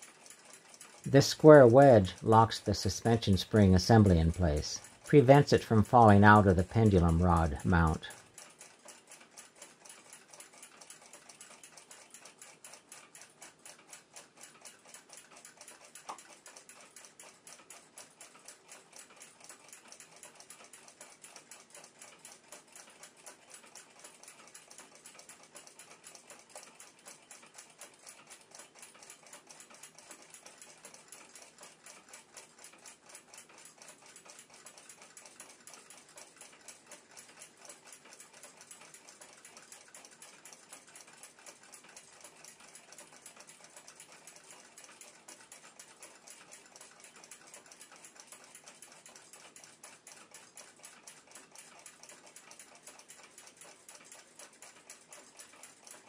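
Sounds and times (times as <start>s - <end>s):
clock ticking: 0.0s - 56.0s.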